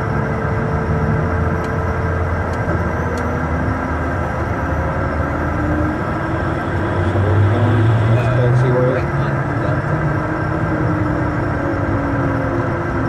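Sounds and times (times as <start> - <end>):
jet rolling on runway: 0.0 - 13.0.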